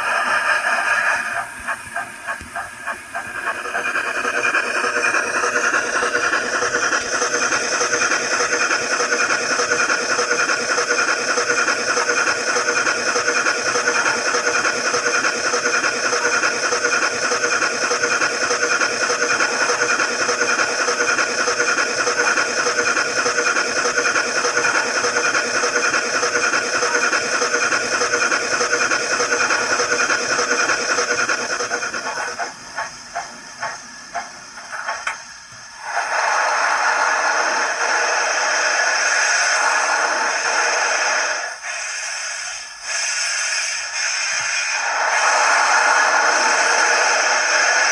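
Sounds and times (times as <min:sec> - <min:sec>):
model steam locomotive exhaust beats: 0:00.0 - 0:47.9
steam hiss: 0:00.0 - 0:47.9.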